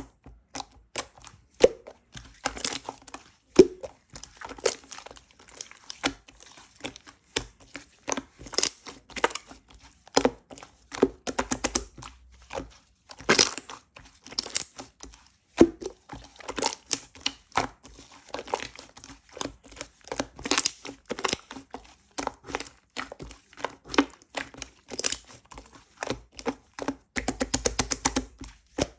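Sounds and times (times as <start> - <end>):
squishing and crinkling food by hand: 0.0 - 28.9.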